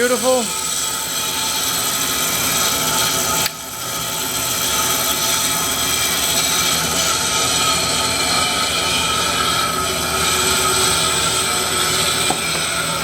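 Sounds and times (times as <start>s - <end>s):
bandsaw running: 0.0s - 13.0s.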